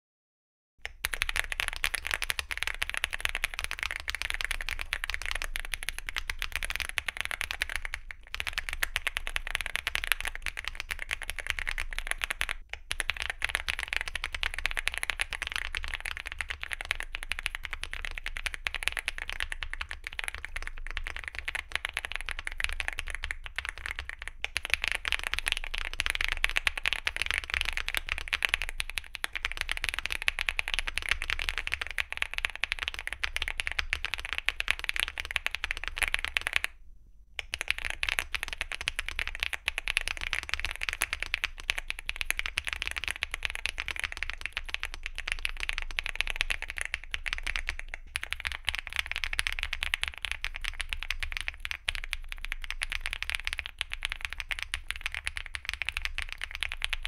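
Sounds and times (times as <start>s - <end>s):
mechanical keyboard typing: 0.9s - 36.7s, 37.4s - 57.0s.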